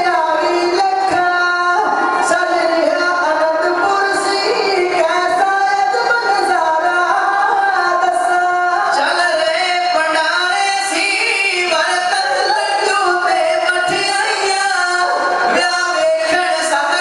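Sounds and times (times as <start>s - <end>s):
men singing through microphones: 0.0s - 17.0s.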